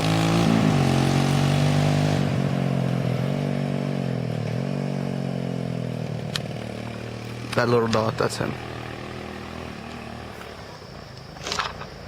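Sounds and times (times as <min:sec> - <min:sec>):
quad bike engine running: 0:00.0 - 0:11.6.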